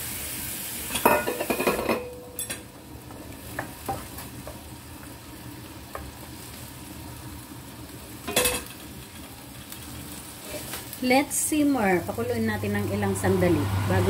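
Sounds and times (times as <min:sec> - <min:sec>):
meat simmering and sizzling in a pan: 0:00.0 - 0:14.0.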